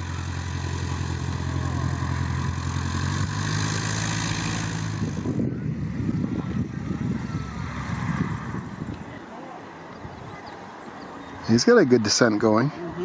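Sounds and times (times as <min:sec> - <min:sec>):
plane taking off rumble: 0:00.0 - 0:11.4
propeller plane engine droning: 0:00.0 - 0:12.0.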